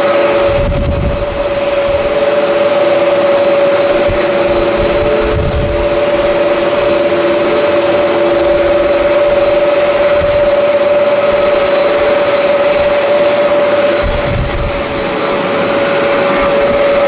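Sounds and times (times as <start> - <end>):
jet engines whining: 0.0 - 17.0
wind buffeting microphone: 0.3 - 2.3, 3.4 - 17.0.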